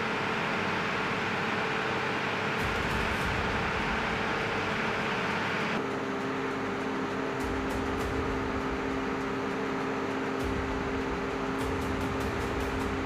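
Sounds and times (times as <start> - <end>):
low steady hum: 0.0 - 13.0
machine hiss and rumble: 0.0 - 13.0.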